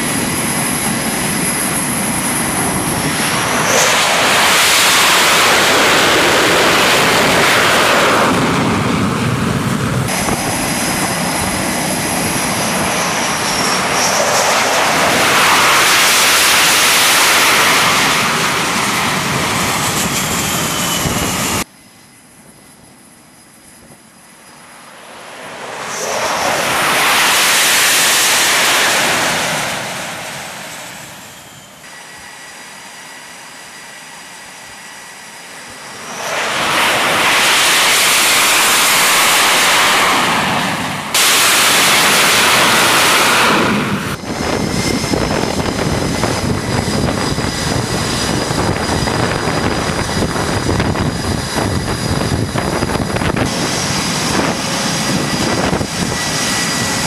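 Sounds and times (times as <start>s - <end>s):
high jet engine whine: 0.0s - 57.0s
jet engines roaring: 0.0s - 57.0s.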